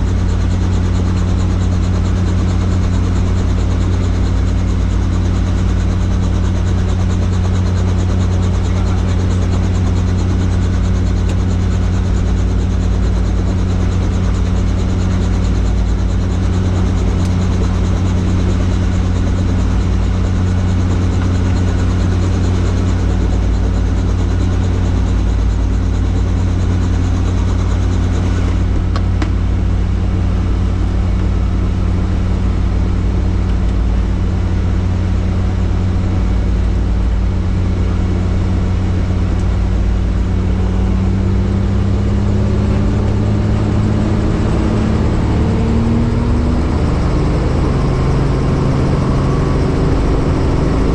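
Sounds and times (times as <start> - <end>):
helicopter turbine and rotor drone: 0.0 - 50.9.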